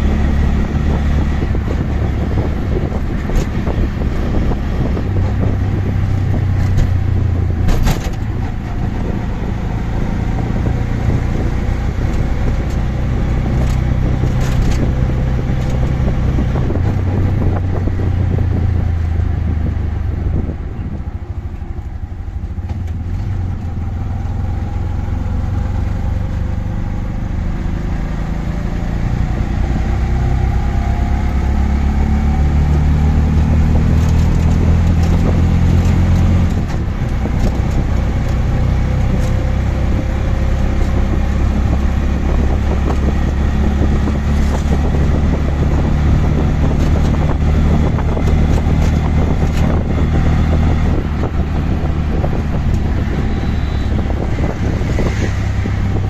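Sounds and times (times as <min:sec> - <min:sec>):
auto rickshaw engine running: 0:00.0 - 0:56.0
road traffic: 0:00.0 - 0:56.0.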